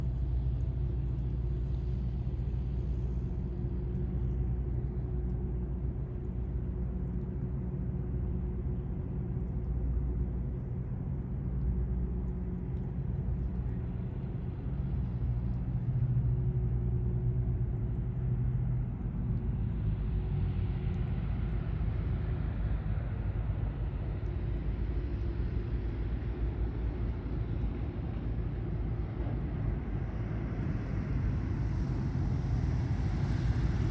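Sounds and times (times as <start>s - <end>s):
aircraft propeller engines droning: 0.0s - 33.9s.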